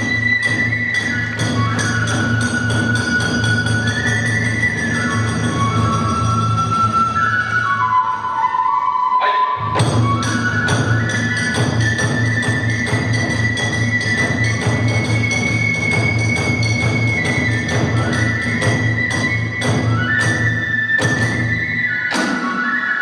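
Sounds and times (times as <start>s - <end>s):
bamboo flute long notes: 0.0s - 23.0s.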